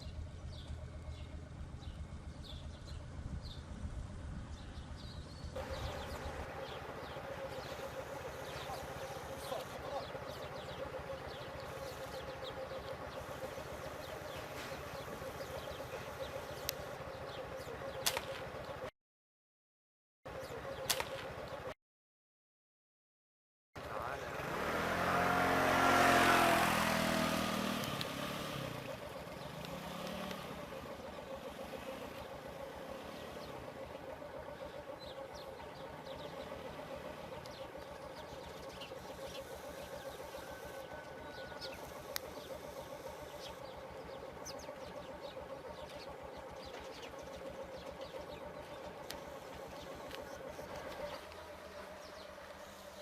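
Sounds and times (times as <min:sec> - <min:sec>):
vehicle engine passing: 0:00.0 - 0:18.9, 0:23.8 - 0:53.0.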